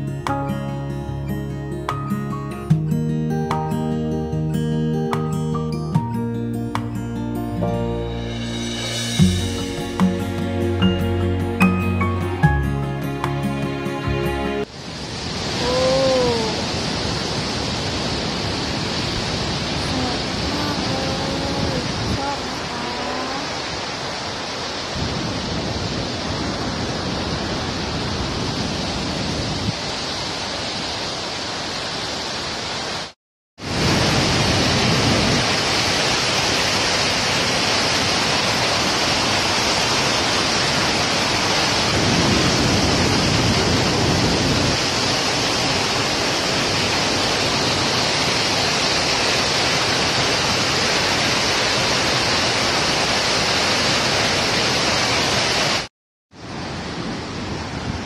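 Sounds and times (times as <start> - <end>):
waterfall and rapids rushing: 0.0 - 58.0.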